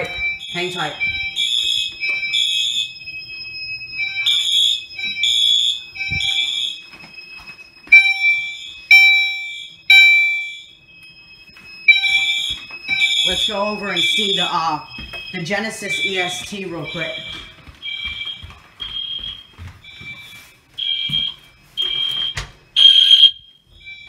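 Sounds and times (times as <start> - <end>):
fire alarm horns blasting: 0.0 - 24.0.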